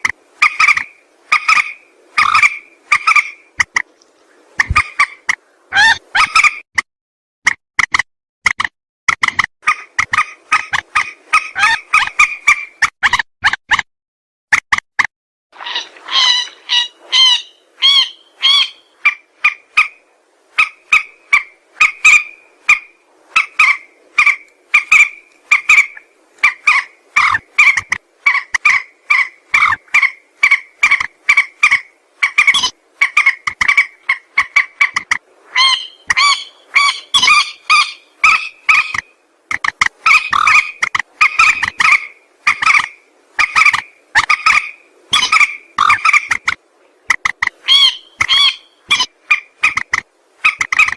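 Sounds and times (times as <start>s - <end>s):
rail bird croaking calls: 0.0s - 3.8s, 4.6s - 6.6s, 9.6s - 12.8s, 15.6s - 50.9s.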